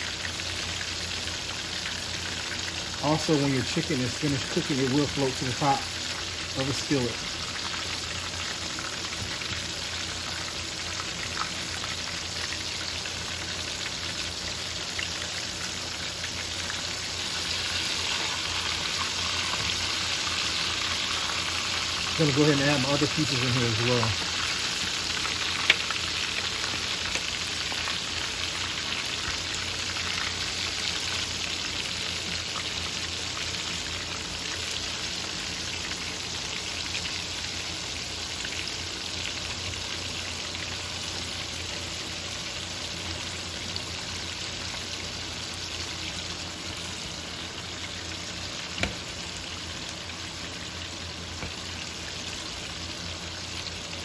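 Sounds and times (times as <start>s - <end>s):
chicken frying in hot oil: 0.0s - 54.0s.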